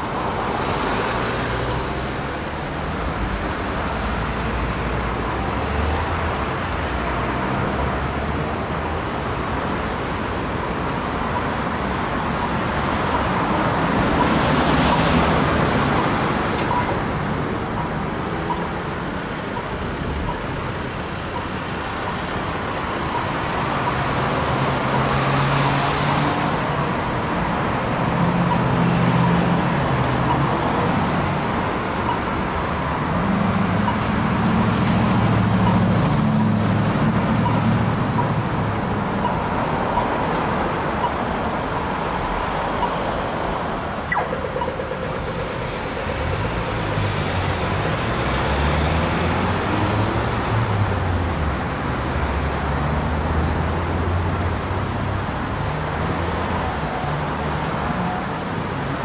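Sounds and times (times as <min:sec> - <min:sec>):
passing car engines: 0:00.0 - 0:59.0
tyre and road noise: 0:00.0 - 0:59.0.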